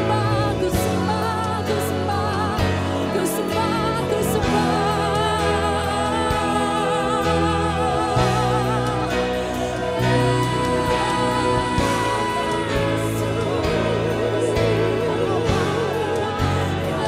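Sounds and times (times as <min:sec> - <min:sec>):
band accompaniment: 0:00.0 - 0:17.0
woman singing with vibrato: 0:00.0 - 0:17.0.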